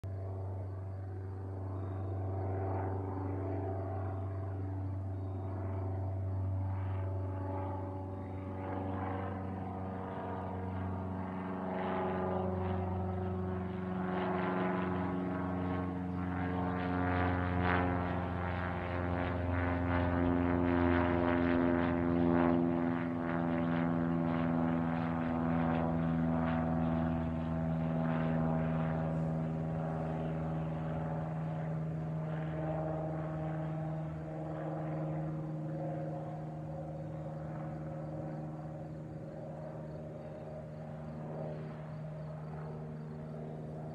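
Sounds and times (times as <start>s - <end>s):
propeller plane flying overhead: 0.0s - 43.9s.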